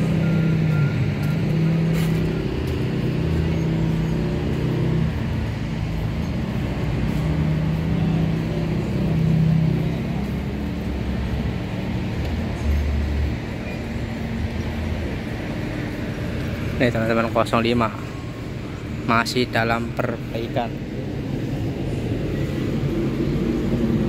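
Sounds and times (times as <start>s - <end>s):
large vehicle engine idling: 0.0s - 24.0s
traffic noise: 0.0s - 24.0s.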